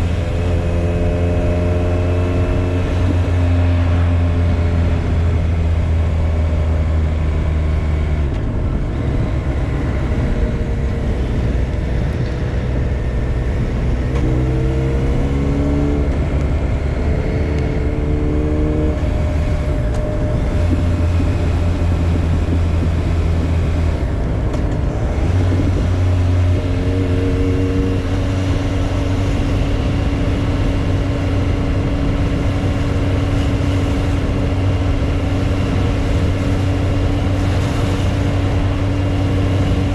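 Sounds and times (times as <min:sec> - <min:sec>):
motorcycle engine running: 0:00.0 - 0:39.9
rushing wind noise: 0:00.0 - 0:39.9.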